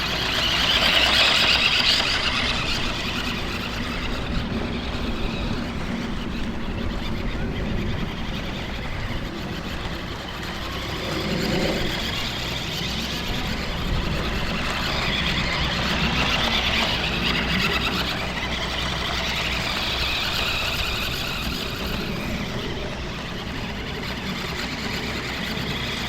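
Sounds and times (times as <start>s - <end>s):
toy truck electric motor whining: 0.0s - 26.0s.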